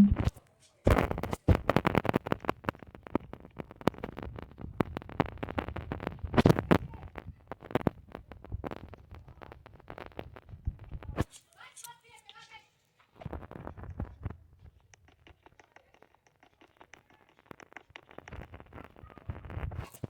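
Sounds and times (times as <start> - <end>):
clicking and crackling noises: 0.0 - 20.0.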